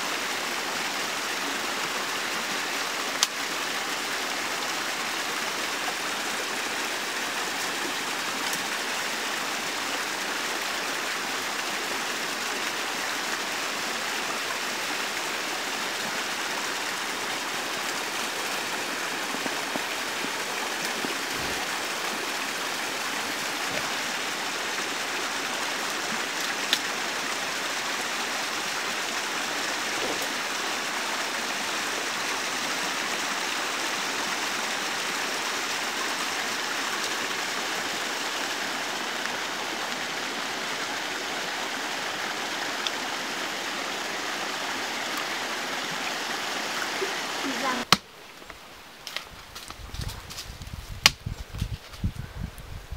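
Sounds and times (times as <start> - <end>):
shallow stream running: 0.0 - 50.4.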